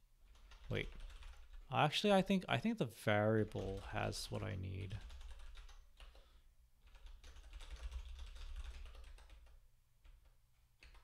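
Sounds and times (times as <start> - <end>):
keyboard typing: 0.3 - 1.7, 3.4 - 11.0.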